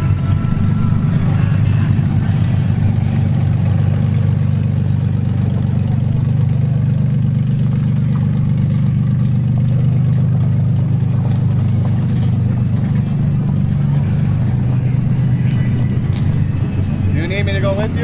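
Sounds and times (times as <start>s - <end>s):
car engines idling: 0.0s - 18.0s.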